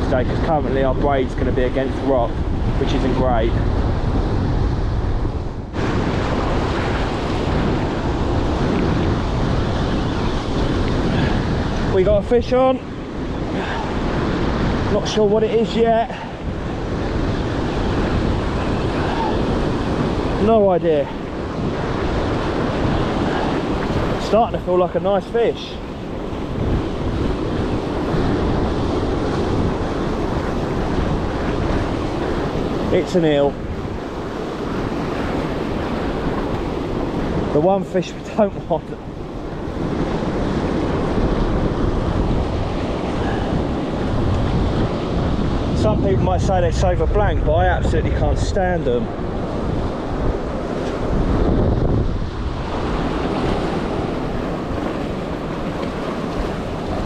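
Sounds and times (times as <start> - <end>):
surf breaking over rocks: 0.0 - 57.0
wind buffeting microphone: 0.0 - 57.0.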